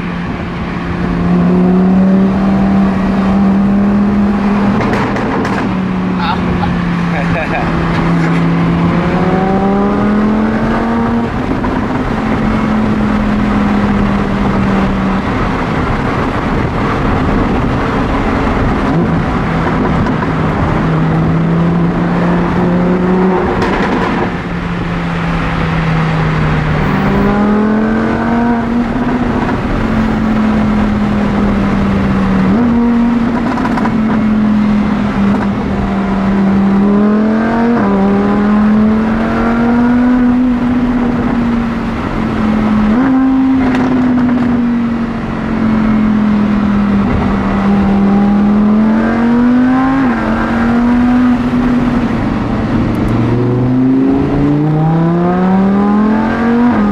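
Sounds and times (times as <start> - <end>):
sports car engine revving: 0.0 - 56.9.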